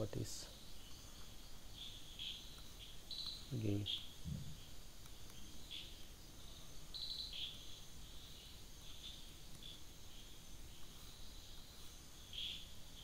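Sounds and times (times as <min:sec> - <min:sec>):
low background noise: 0:00.0 - 0:13.0
faint animal chirping: 0:00.1 - 0:13.0.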